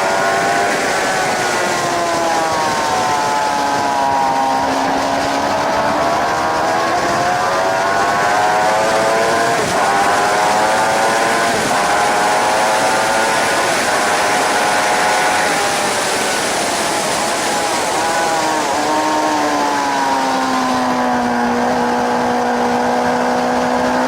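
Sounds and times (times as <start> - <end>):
motorcycle engine revving: 0.0 - 24.0
wind rushing: 0.0 - 24.0.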